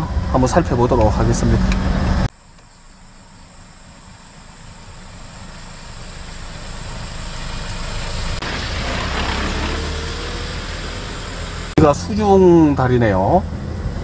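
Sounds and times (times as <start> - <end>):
truck engine passing: 0.0 - 2.3, 4.9 - 14.0.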